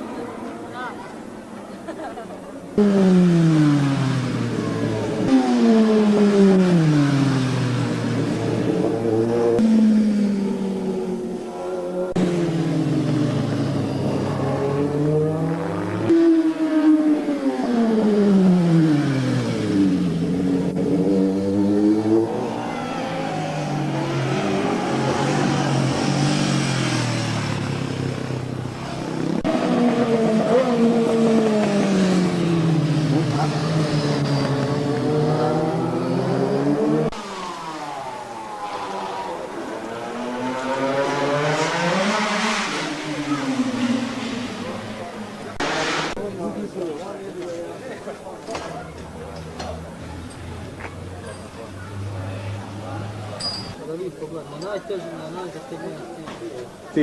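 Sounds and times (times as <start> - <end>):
racing motorcycle engine: 2.8 - 53.8.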